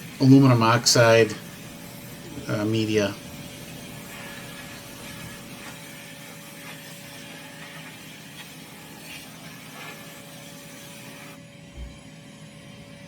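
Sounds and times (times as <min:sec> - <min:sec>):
sandblaster hissing: 0:00.0 - 0:11.4.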